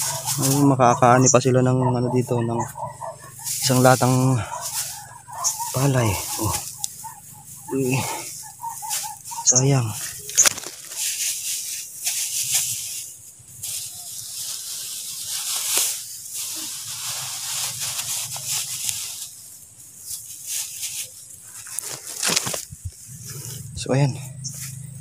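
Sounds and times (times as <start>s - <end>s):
grass and seedlings rustling: 0.0s - 25.0s.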